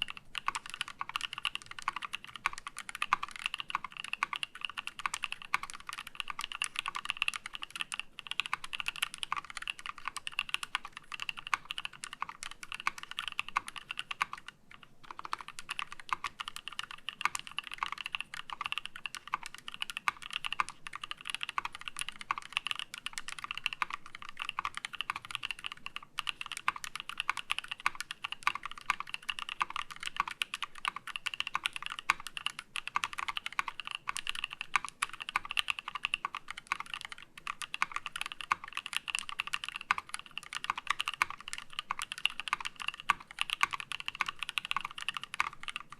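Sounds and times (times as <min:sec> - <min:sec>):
fast mechanical keyboard typing: 0:00.0 - 0:45.9.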